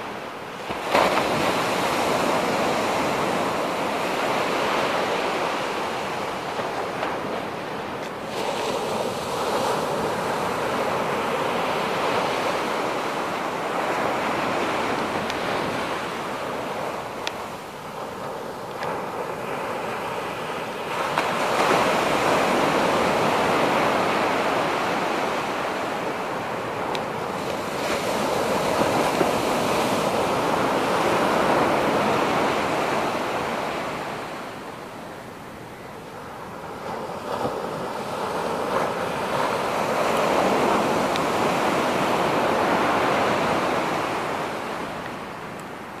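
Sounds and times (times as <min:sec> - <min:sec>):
surf breaking on beach: 0:00.0 - 0:46.0.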